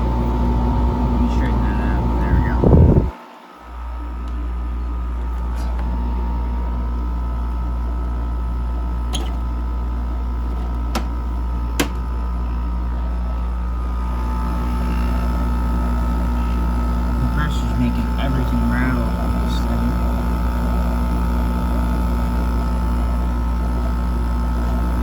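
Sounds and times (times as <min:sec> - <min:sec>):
air conditioner humming: 0:00.0 - 0:25.0
air conditioner rattling: 0:00.0 - 0:25.0.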